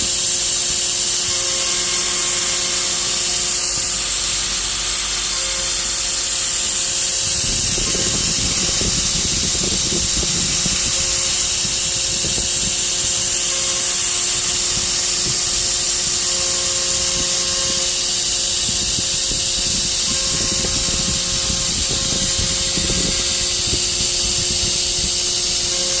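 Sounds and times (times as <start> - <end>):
rough wood cutting noise: 0.0 - 26.0
router spindle running: 0.0 - 26.0.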